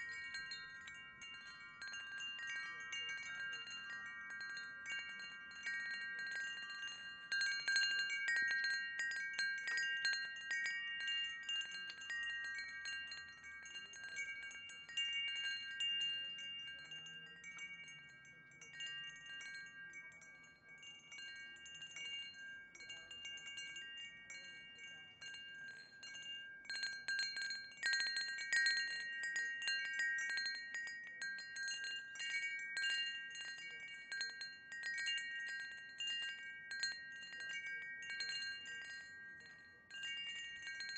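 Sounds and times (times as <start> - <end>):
wind chimes ringing: 0.0 - 40.9.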